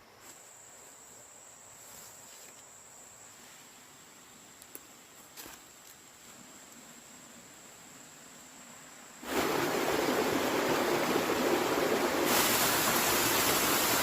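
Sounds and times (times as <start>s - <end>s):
forest background noise: 0.0s - 14.0s.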